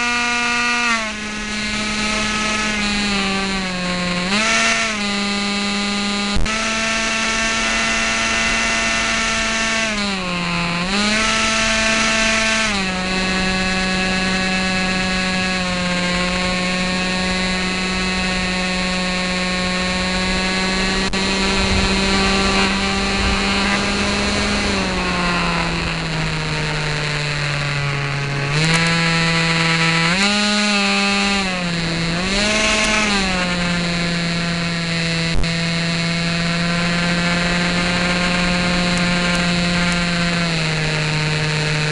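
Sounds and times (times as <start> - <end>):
model plane motor whining: 0.0 - 41.9.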